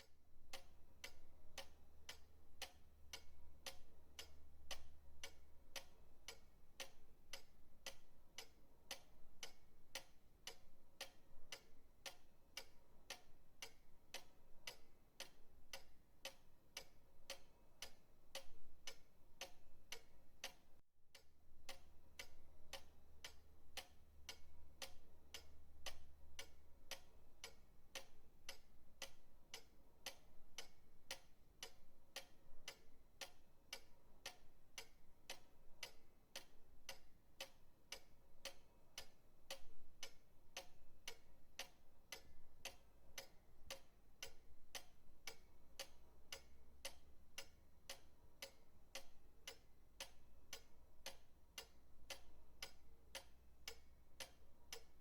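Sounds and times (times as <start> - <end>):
pendulum clock ticking: 0.0 - 55.0.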